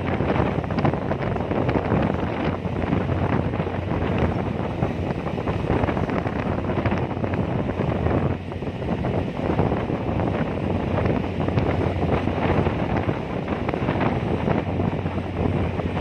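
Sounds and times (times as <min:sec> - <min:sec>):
ferry engine drone: 0:00.0 - 0:16.0
wind buffeting microphone: 0:00.0 - 0:16.0.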